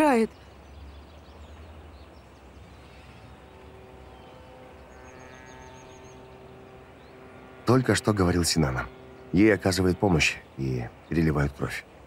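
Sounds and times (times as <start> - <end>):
birds chirping: 0.0 - 12.0
low hum: 0.0 - 12.0
soft sustained music tones: 0.0 - 12.0.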